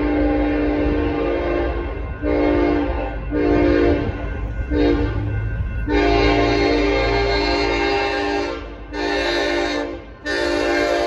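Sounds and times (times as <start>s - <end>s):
train air horn blasts: 0.0s - 11.0s.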